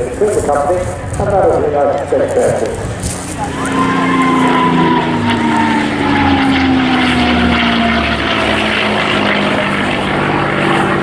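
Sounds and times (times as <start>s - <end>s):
propeller plane engine flying past: 0.0s - 11.0s.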